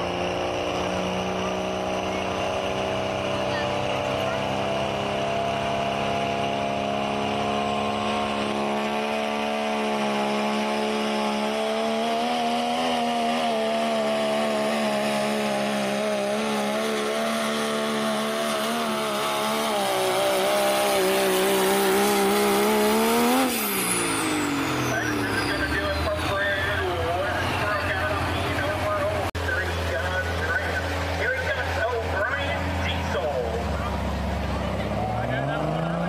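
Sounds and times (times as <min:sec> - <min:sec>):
diesel truck engine at high revs: 0:00.0 - 0:36.0.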